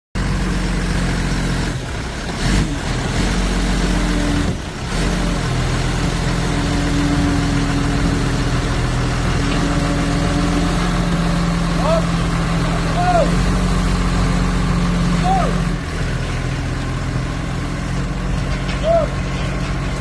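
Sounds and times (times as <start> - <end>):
forklift engine running: 0.2 - 20.0.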